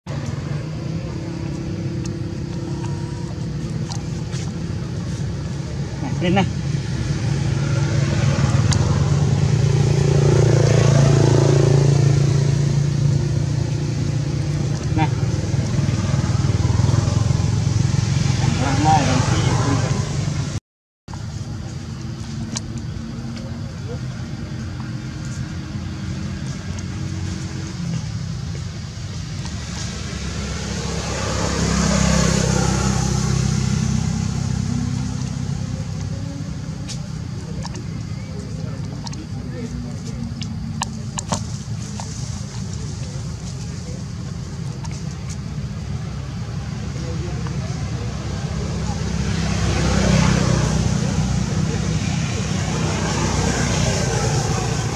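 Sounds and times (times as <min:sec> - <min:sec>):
motor engine running: 0:00.1 - 0:54.9.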